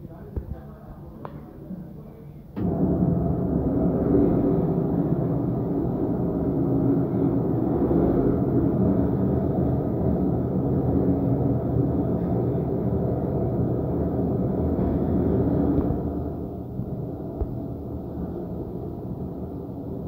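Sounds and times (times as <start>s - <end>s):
lift mechanical rumble: 0.0s - 20.0s.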